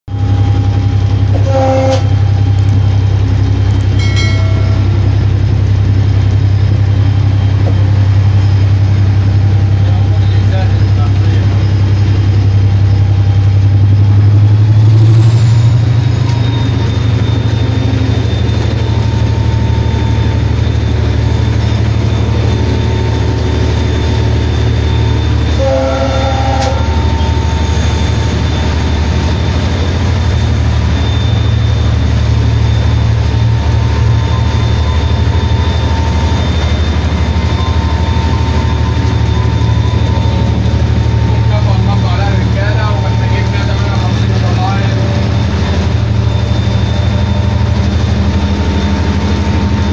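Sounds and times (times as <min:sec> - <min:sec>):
diesel locomotive engine drone: 0:00.0 - 0:49.9
short pitched tone: 0:00.1 - 0:49.9.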